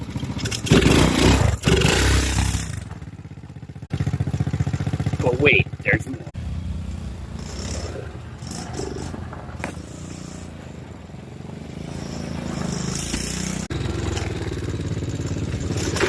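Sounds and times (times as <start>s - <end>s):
small engine revving: 0.0s - 3.1s, 3.8s - 16.0s.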